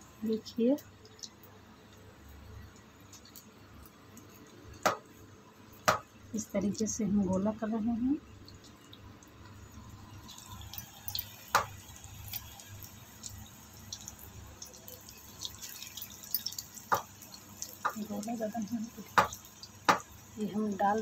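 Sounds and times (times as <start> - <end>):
batter deep-frying in hot oil: 0.0 - 21.0.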